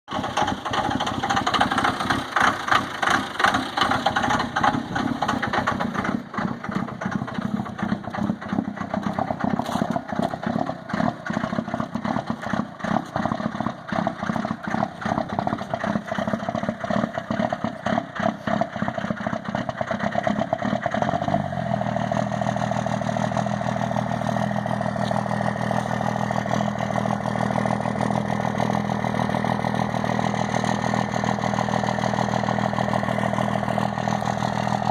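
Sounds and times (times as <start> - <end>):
engine running unevenly: 0.0 - 34.9.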